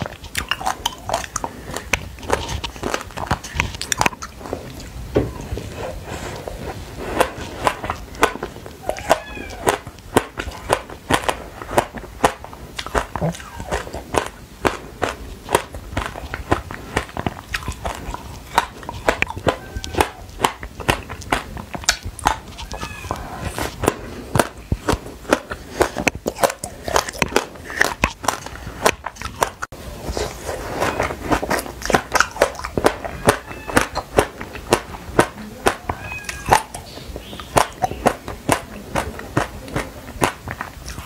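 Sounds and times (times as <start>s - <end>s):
crunching and chewing food: 0.0s - 41.0s.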